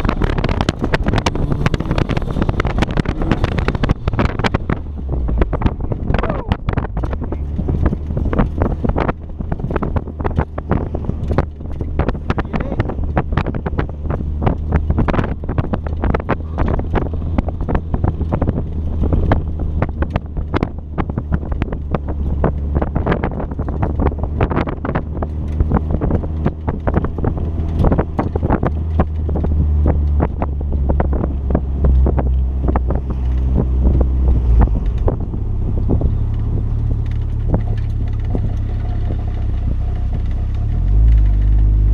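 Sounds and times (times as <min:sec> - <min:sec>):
car engine running hard: 0:00.0 - 0:41.9
wind buffeting microphone: 0:00.0 - 0:41.9.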